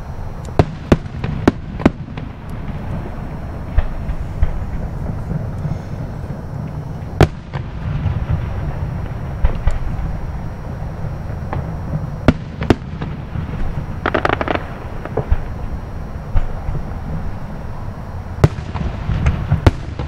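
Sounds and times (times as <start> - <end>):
low rumble: 0.0 - 19.6
fireworks crackle: 0.0 - 20.0
fireworks bangs: 0.5 - 20.0.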